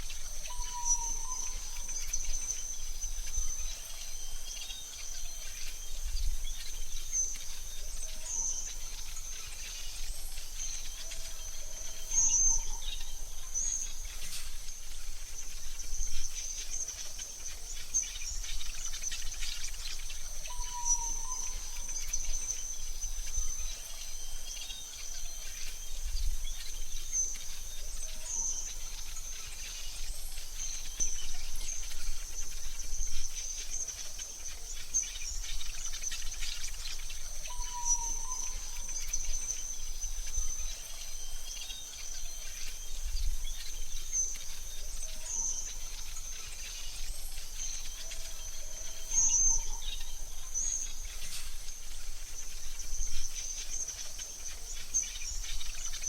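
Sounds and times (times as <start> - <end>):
high-pitched insect trill: 0.0 - 56.0
mid-pitched bird calls: 0.0 - 56.0.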